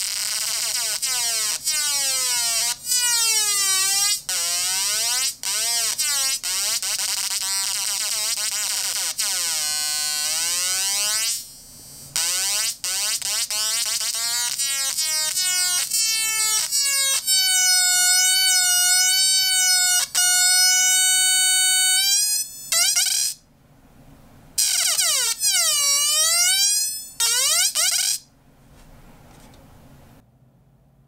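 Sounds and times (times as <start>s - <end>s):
synth buzzing and squealing: 0.0s - 23.4s, 24.6s - 28.3s.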